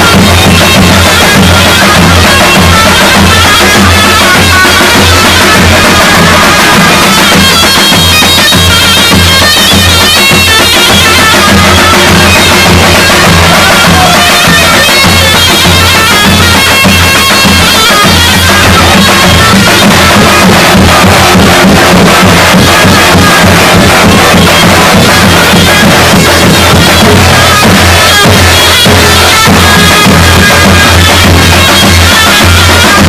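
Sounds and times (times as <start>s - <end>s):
bass drum beats: 0.0s - 33.0s
shrill reedy shawm melody: 0.0s - 33.0s.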